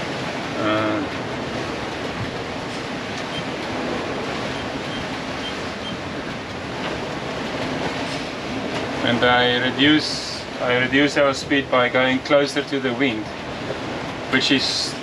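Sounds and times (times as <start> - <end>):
wind and sea rushing: 0.0 - 15.0.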